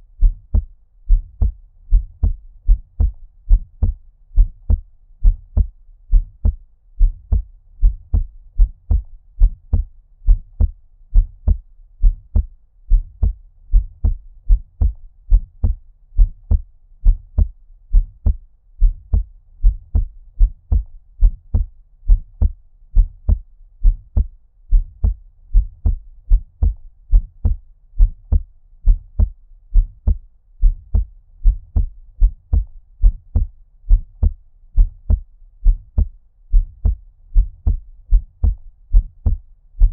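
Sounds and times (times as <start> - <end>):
heartbeat thumps: 0.2 - 39.9.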